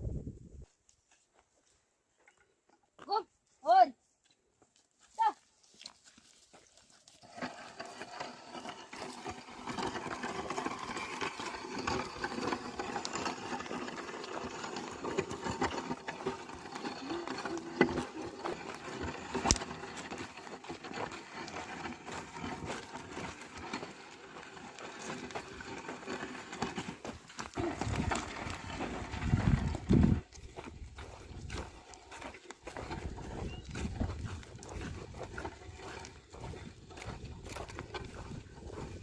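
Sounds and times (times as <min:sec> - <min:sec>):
hooves stepping: 0:00.6 - 0:39.0
plough working through soil: 0:05.0 - 0:39.0.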